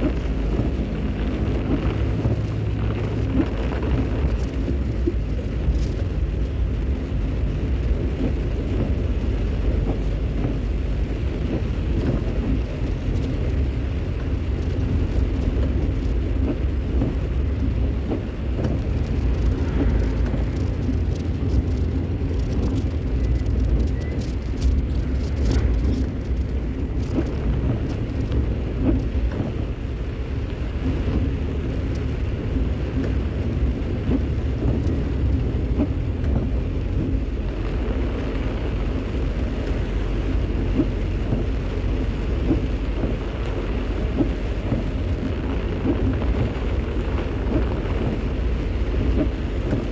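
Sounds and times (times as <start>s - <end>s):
rain hiss: 0.0s - 49.9s
vehicle engine rumble: 0.0s - 49.9s.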